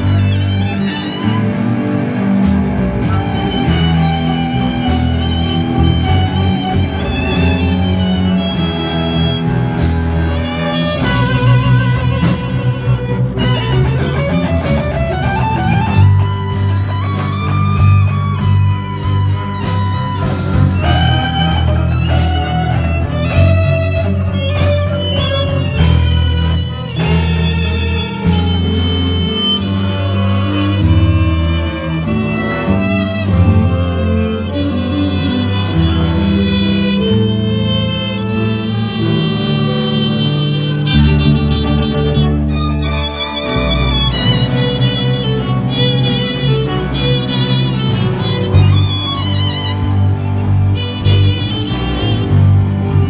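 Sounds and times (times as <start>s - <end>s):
electric guitar and strings ensemble: 0.0s - 53.0s.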